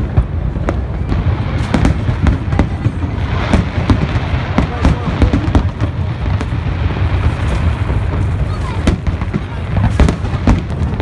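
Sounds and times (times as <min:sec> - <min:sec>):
fireworks bangs and crackles: 0:00.0 - 0:11.0
heavy rumble: 0:00.0 - 0:11.0.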